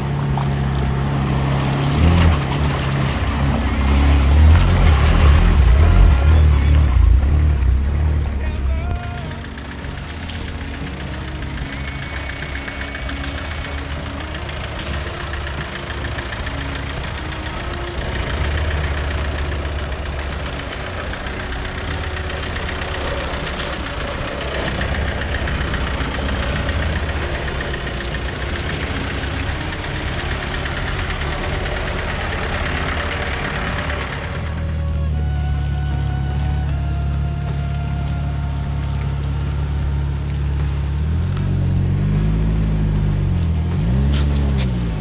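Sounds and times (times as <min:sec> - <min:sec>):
diesel engine clattering: 0:00.0 - 0:45.0.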